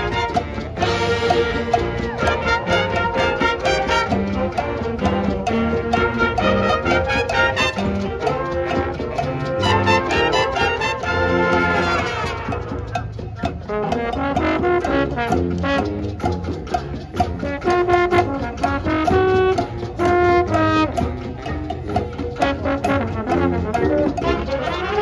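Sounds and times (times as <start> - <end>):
marching band playing: 0.0 - 25.0.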